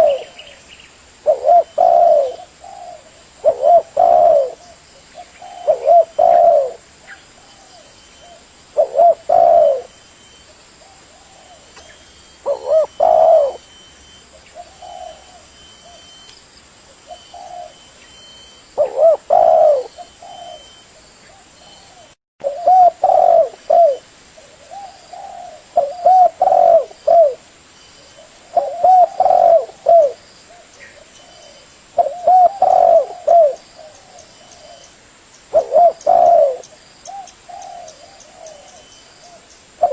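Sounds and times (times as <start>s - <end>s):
dove cooing: 0.0s - 0.6s, 1.2s - 16.2s, 17.0s - 27.4s, 28.0s - 34.9s, 35.5s - 39.9s.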